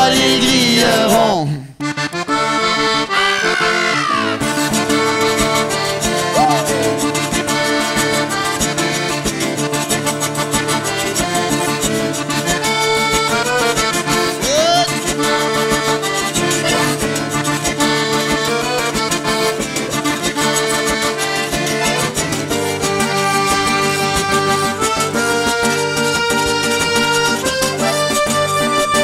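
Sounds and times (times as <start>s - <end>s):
button accordion melody: 0.0s - 29.0s
rubboard scraping rhythm: 4.5s - 29.0s.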